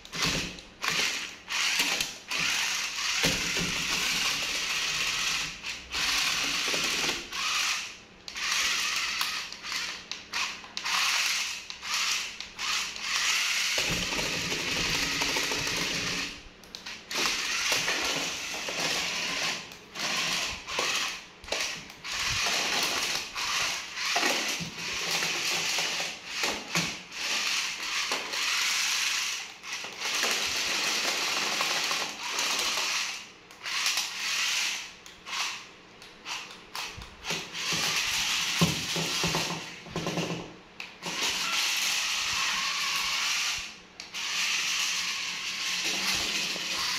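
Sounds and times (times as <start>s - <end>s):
toy car motors whirring: 0.0s - 40.4s, 41.0s - 46.9s.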